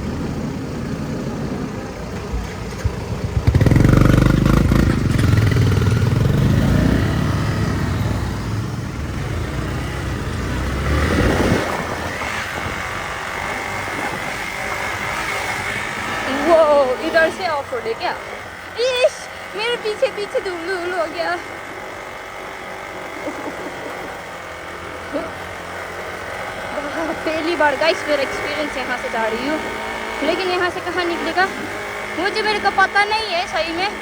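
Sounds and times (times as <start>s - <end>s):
motorcycle engine rumbling: 0.0s - 34.0s.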